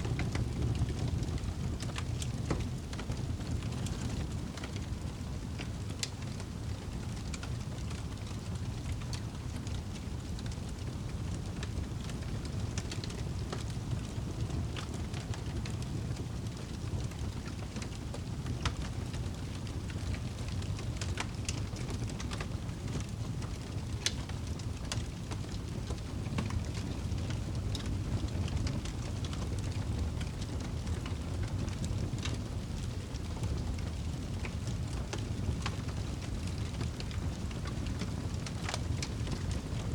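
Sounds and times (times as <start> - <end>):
low fire rumble: 0.0 - 39.9
wood crackling and popping: 0.1 - 39.9.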